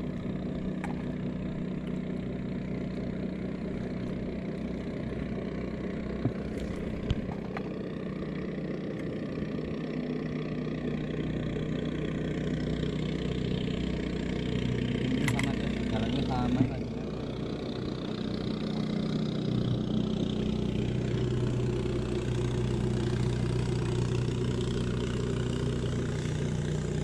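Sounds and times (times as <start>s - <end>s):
boat motor idling: 0.0s - 27.0s.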